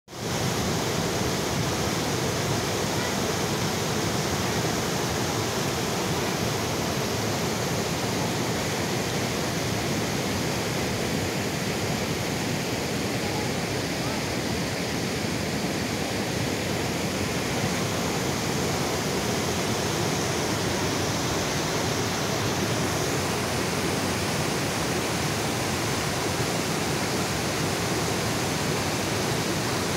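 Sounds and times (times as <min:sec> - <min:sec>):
flooded river rushing: 0:00.2 - 0:29.9.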